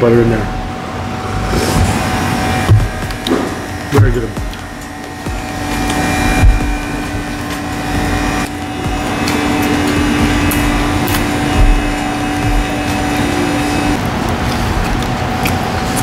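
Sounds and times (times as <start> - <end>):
motor humming and whirring: 0.1 - 16.0.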